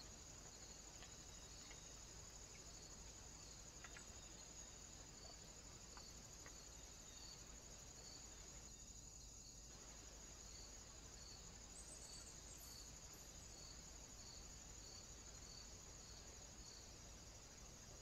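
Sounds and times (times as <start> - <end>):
faint high-pitched insect chirring: 0.0 - 18.0.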